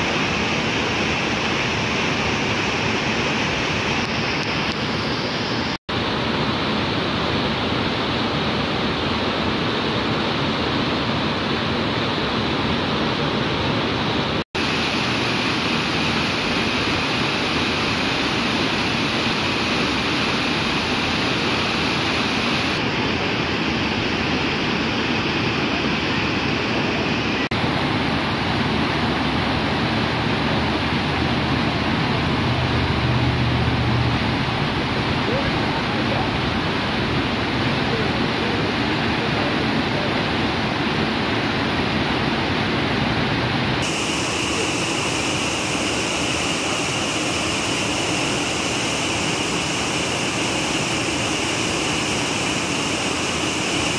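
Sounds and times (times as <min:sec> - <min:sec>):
waterfall rushing over rocks: 0:00.0 - 0:53.9.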